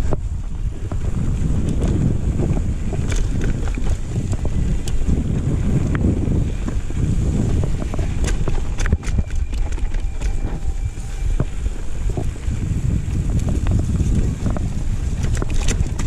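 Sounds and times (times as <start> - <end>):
bike clicks and rattles: 0.0 - 16.0
tyres rumbling on dirt trail: 0.0 - 16.0
wind buffeting microphone: 0.0 - 16.0.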